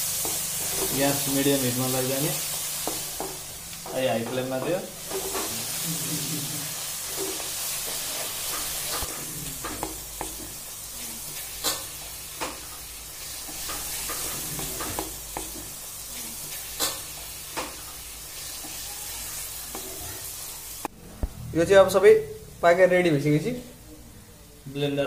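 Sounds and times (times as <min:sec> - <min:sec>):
vegetables sizzling in a pan: 0:00.0 - 0:20.9.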